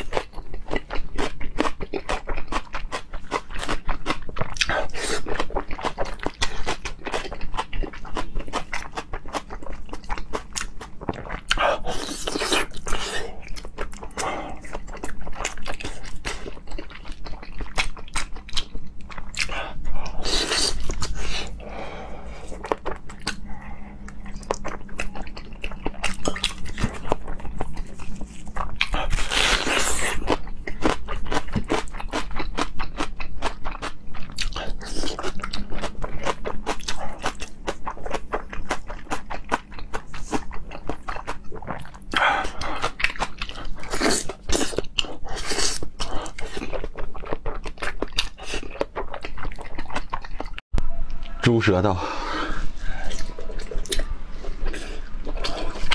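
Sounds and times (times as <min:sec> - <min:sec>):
wet chewing and lip-smacking: 0:00.0 - 0:21.6, 0:22.4 - 0:51.4, 0:52.8 - 0:55.9.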